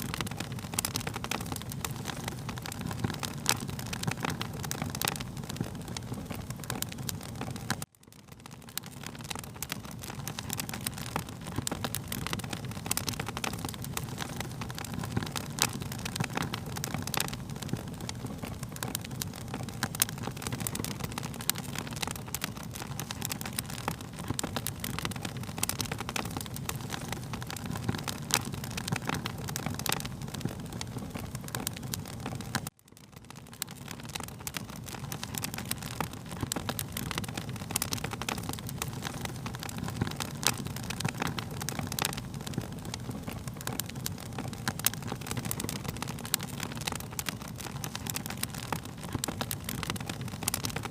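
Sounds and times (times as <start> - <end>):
sharp pops and snaps: 0.0 - 50.9
wood fire crackling: 0.0 - 50.9.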